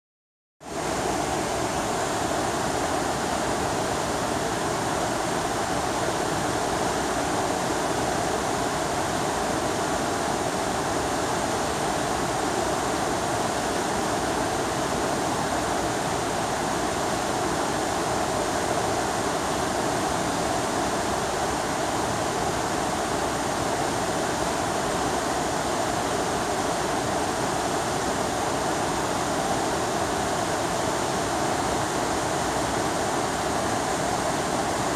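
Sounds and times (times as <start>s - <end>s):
rapids rushing over rocks: 0.6s - 34.9s.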